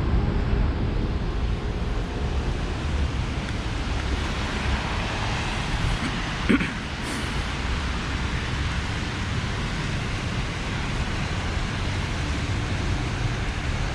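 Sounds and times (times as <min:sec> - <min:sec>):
city traffic rumble: 0:00.0 - 0:13.9.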